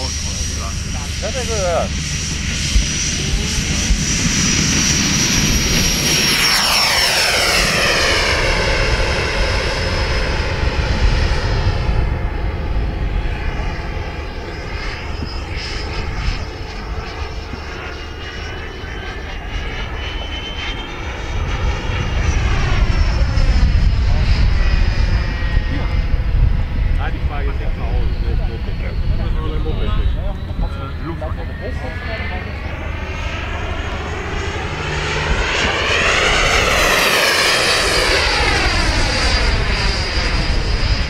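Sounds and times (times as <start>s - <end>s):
model jet fan whine: 0.0s - 41.0s.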